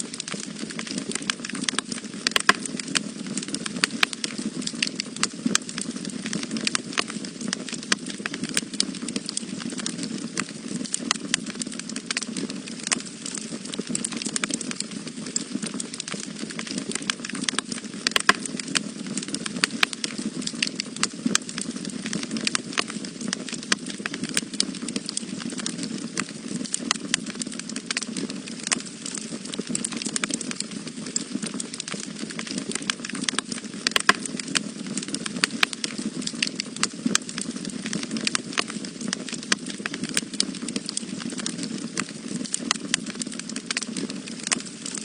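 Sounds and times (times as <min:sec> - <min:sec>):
low rumble of flames: 0:00.0 - 0:45.0
wood fire crackling and popping: 0:00.0 - 0:45.0.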